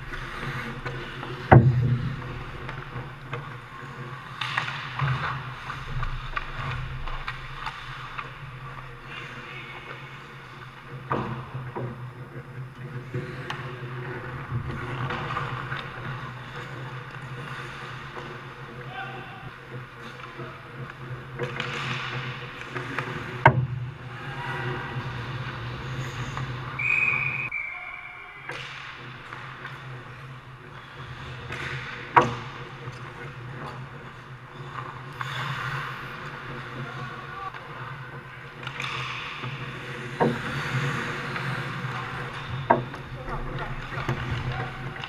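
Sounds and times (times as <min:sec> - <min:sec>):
skates scraping ice: 0:00.0 - 0:45.0.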